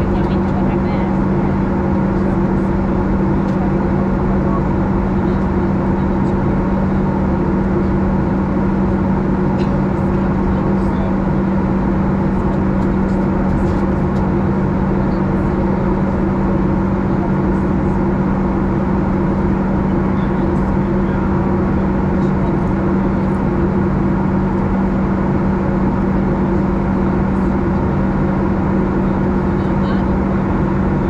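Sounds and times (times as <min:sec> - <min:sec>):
aircraft cabin engine rush: 0:00.0 - 0:31.0
steady low hum: 0:00.0 - 0:31.0.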